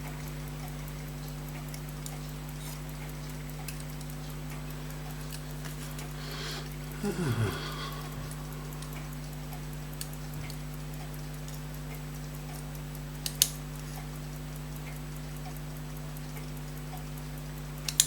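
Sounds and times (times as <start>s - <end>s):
low electrical hum: 0.0s - 18.0s
tweezers clicking on tiny parts: 0.5s - 17.1s, 17.7s - 18.0s.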